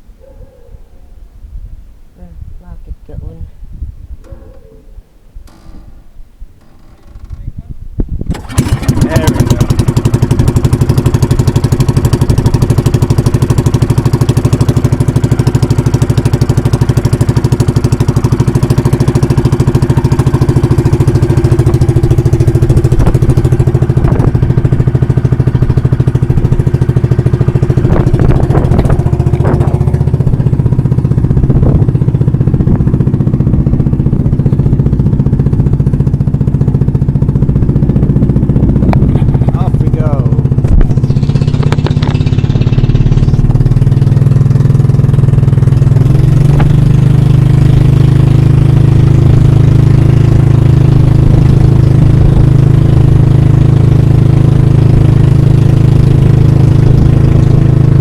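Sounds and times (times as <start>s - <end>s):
boat engine running: 5.5s - 58.0s.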